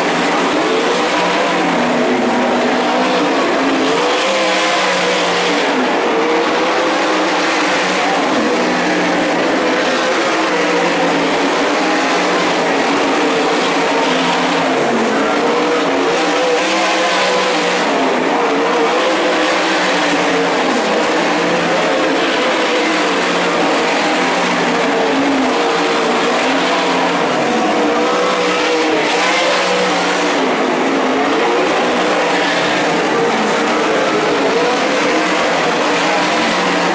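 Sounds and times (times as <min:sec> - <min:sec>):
race car engines: 0:00.0 - 0:36.9.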